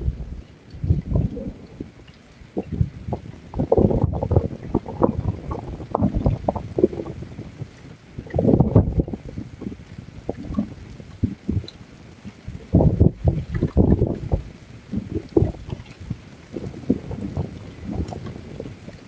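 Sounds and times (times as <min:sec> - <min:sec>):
heavy rain: 0:00.0 - 0:19.0
raindrops ticking: 0:00.0 - 0:19.0
wind buffeting microphone: 0:00.0 - 0:19.0.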